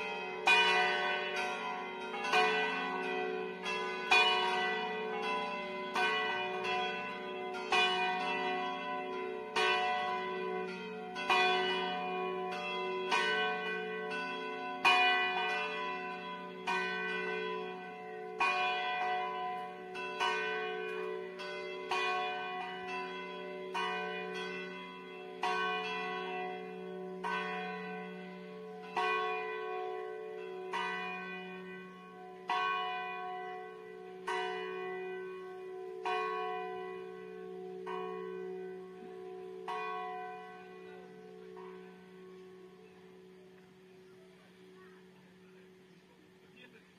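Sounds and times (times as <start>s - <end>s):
church bells pealing: 0.0s - 46.4s.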